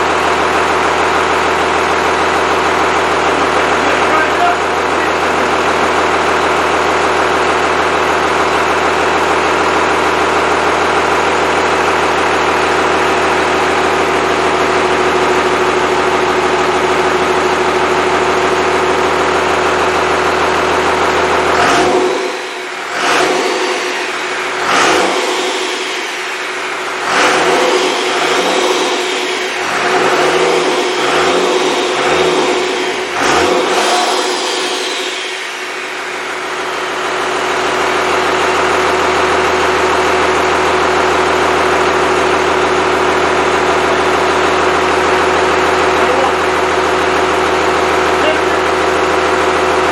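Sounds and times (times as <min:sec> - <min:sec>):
diesel engine running and revving: 0:00.0 - 0:49.9.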